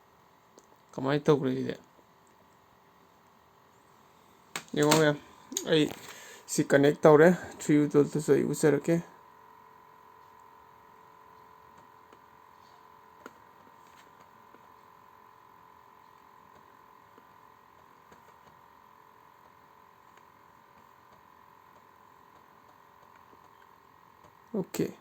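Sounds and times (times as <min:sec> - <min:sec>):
faint high hum: 0:00.0 - 0:25.0.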